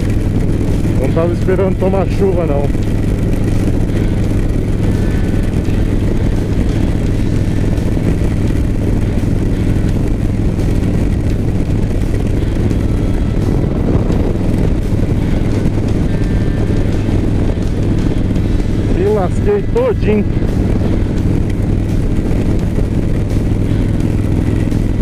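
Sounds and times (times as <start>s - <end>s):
motorcycle engine cruising: 0.0s - 25.0s
rushing wind: 0.0s - 25.0s
tyre noise on wet road: 0.0s - 25.0s.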